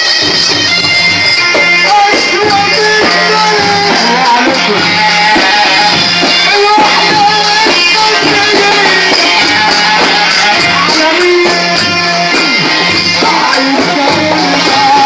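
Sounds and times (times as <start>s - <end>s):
live wedding band music: 0.0s - 15.0s.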